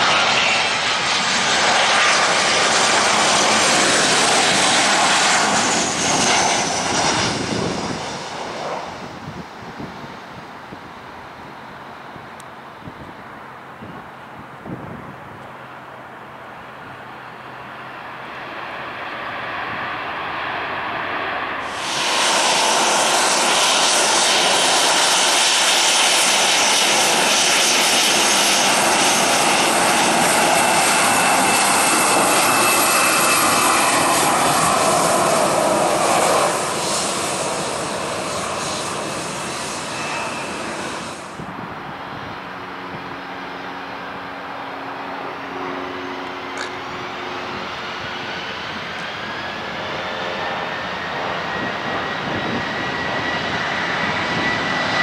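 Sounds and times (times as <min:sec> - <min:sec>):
loud jet engine rushing: 0:00.0 - 0:11.6, 0:16.8 - 0:55.0
jet engine whining hum: 0:00.0 - 0:55.0.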